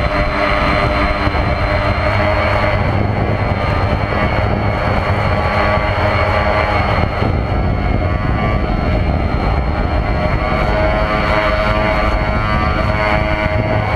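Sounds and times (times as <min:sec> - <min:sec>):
model airplane motor and propeller: 0:00.0 - 0:13.9
rushing wind noise: 0:00.0 - 0:13.9.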